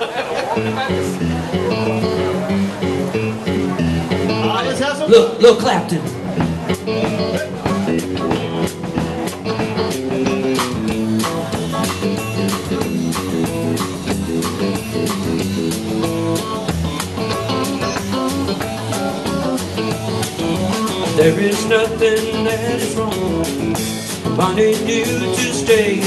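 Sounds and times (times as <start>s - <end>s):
lead guitar playing quick notes: 0.6s - 26.0s
drum kit beat: 0.9s - 26.0s.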